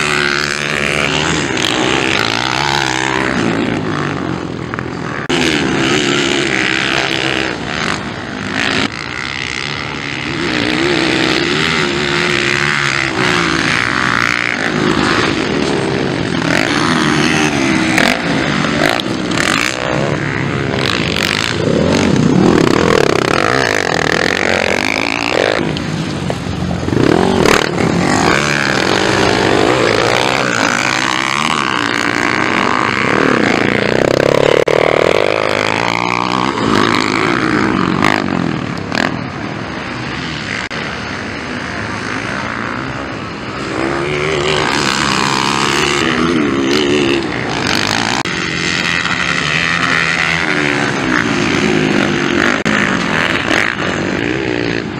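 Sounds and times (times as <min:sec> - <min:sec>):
motocross bikes revving past: 0:00.0 - 0:54.9.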